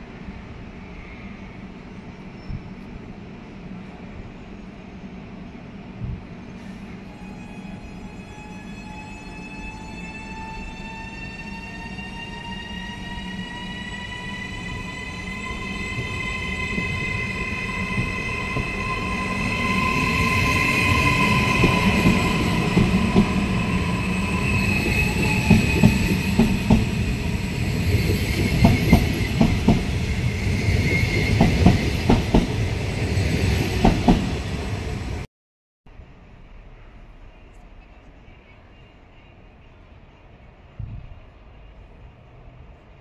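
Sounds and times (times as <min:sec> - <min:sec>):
electric train whine and rumble: 0:00.0 - 0:35.3.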